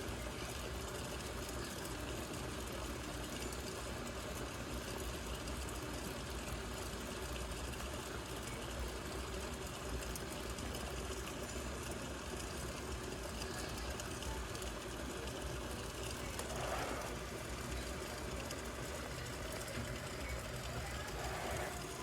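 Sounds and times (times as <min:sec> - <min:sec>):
electric kettle heating water: 0:00.0 - 0:22.0.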